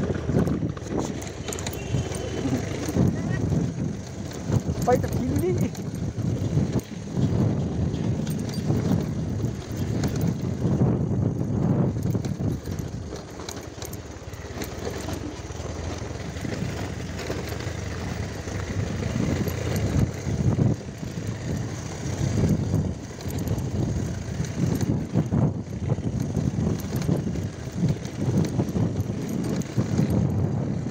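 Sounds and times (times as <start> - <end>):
motorbike engine rumbling: 0.0 - 30.9.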